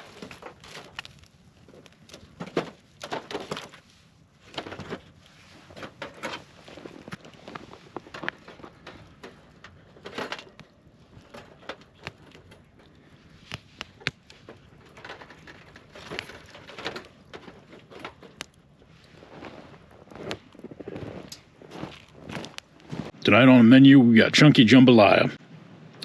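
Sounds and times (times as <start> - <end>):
soft rustling: 0.0 - 23.2
wood fire crackling and popping: 0.0 - 23.4.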